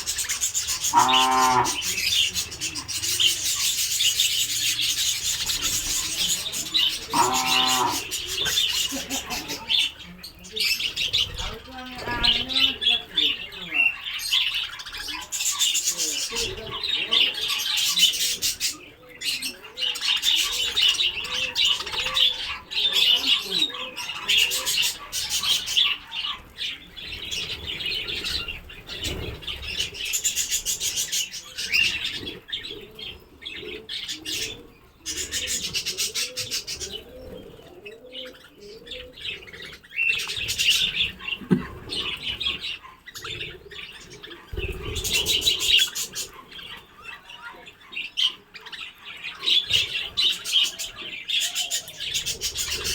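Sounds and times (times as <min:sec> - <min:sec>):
budgerigars chattering and chirping: 0:00.0 - 0:52.9.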